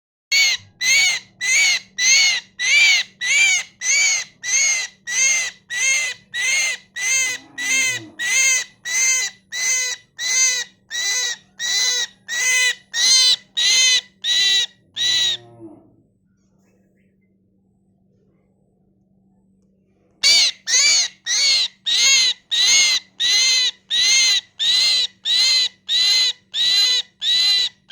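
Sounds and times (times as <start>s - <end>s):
myna harsh rasping calls: 0.3s - 15.5s, 20.2s - 27.9s.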